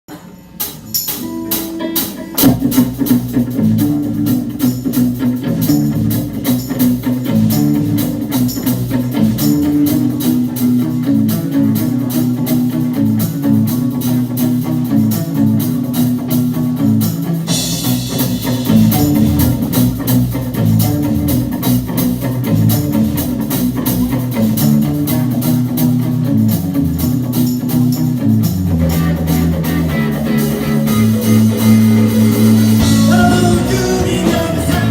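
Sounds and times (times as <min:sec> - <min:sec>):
cymbals: 0:00.1 - 0:34.9
electric guitar: 0:00.1 - 0:34.9
live rock band playing: 0:00.5 - 0:34.9.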